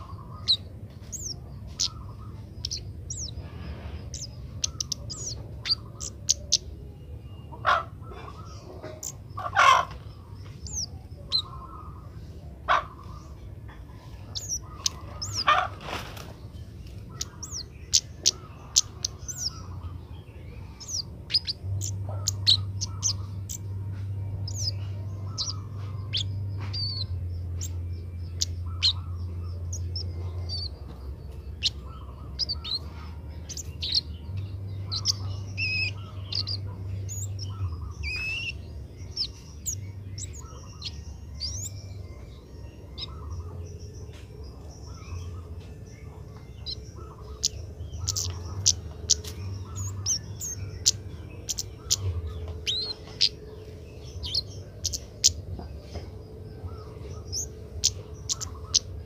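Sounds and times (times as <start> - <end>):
bird chirping: 0.0 - 59.0
steady low hum: 0.0 - 59.0.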